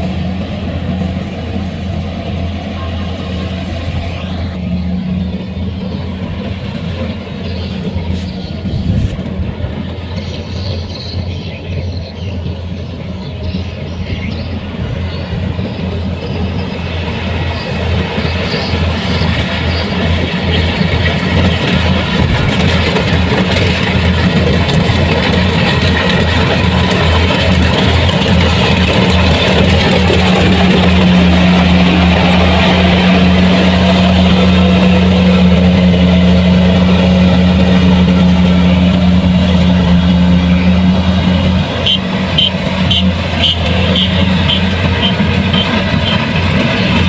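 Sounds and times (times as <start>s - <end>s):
combine harvester engine hum: 0.0s - 47.0s.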